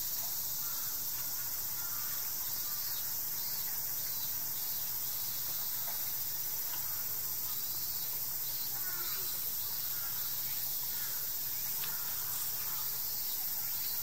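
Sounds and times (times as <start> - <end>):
cicadas droning: 0.0 - 14.0.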